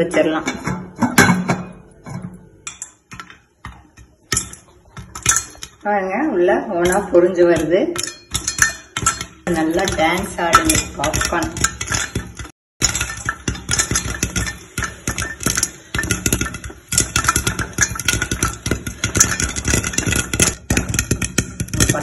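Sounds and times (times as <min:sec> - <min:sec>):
popcorn popping and crackling: 0:00.0 - 0:22.0.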